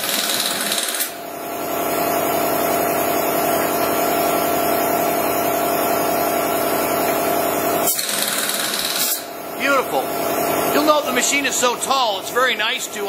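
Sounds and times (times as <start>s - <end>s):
air-powered drawbar running: 0.0s - 13.0s.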